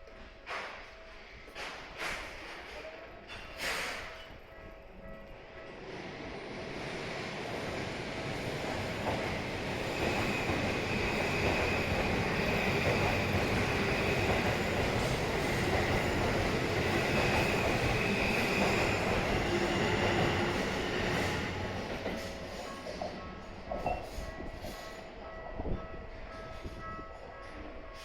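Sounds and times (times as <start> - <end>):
train running past: 0.1 - 28.0.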